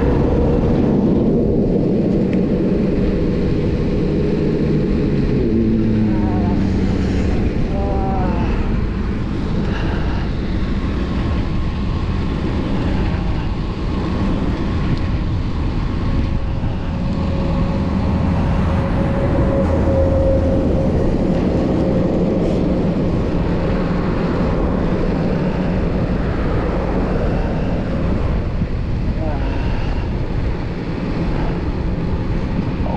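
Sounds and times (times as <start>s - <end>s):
motor vehicle hum: 0.0s - 32.9s
road traffic noise: 0.0s - 32.9s.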